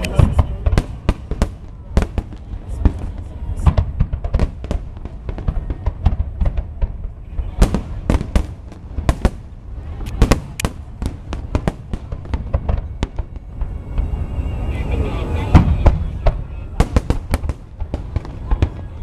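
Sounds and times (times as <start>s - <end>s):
continuous low rumble: 0.0s - 19.0s
fireworks bursting with sharp bangs: 0.0s - 19.0s.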